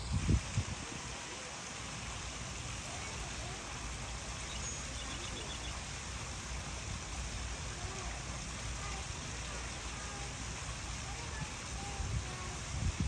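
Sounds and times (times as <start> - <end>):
faint distant voices: 0.3 - 13.0.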